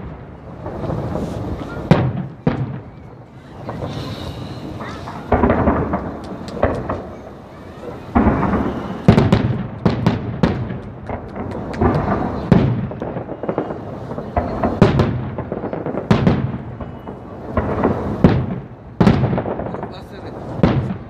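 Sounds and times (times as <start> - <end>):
fireworks bursting and crackling: 0.0 - 21.0.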